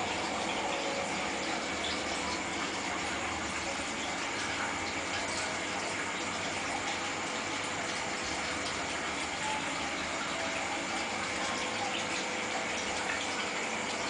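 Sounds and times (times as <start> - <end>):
air bubbles churning: 0.0 - 14.0
aquarium water rushing: 0.0 - 14.0
faint steady hum: 0.0 - 14.0.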